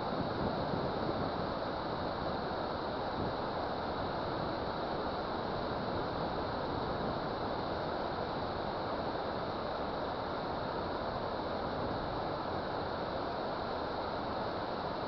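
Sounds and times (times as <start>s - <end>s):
water rushing from dam: 0.0s - 15.0s.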